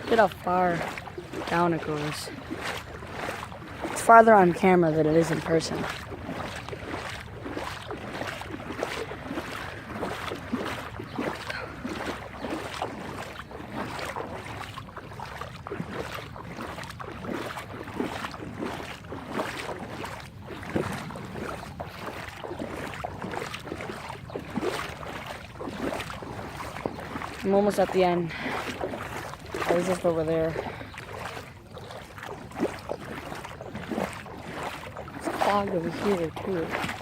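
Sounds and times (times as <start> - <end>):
person wading through water: 0.0 - 37.0
water sloshing and splashing: 0.0 - 37.0.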